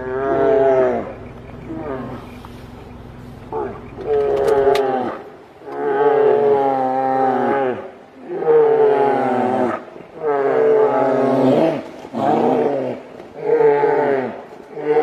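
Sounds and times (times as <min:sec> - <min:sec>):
bears roaring: 0:00.0 - 0:15.0.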